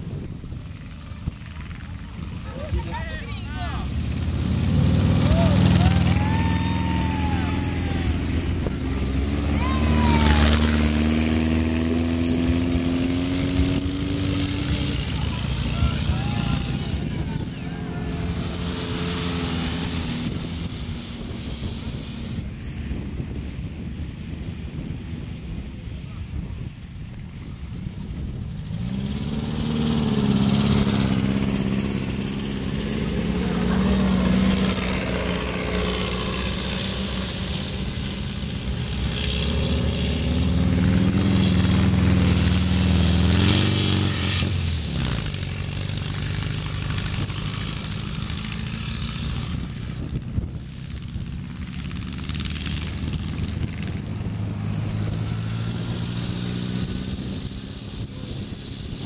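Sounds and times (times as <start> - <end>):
dune buggy engines revving: 0.0 - 59.0.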